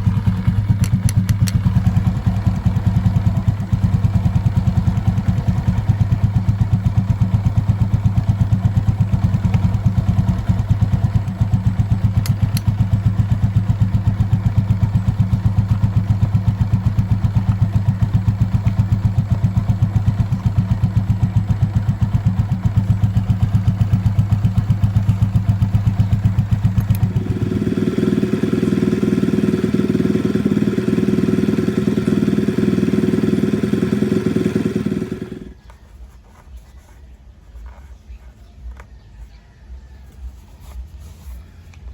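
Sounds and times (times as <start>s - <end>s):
motorcycle engine idling and revving: 0.0s - 36.7s, 37.4s - 41.9s.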